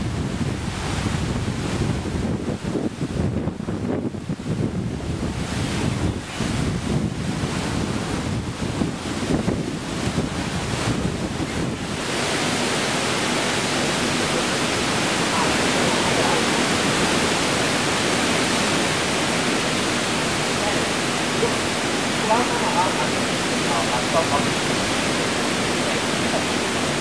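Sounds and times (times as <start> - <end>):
steady rushing hiss: 0.0 - 27.0
wind buffeting microphone: 0.0 - 27.0.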